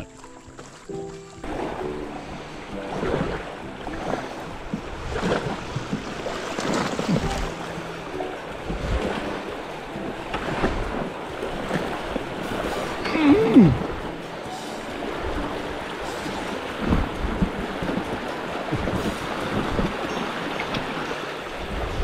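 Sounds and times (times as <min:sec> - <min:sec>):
river water splashing around kayak: 0:00.0 - 0:22.0
wind noise on microphone: 0:01.8 - 0:07.8, 0:08.5 - 0:14.2, 0:14.8 - 0:22.0.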